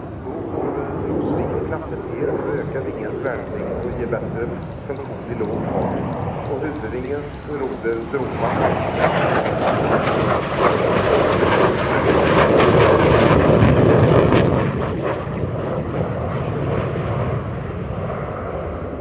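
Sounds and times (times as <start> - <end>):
jet aircraft passing: 0.0 - 19.0.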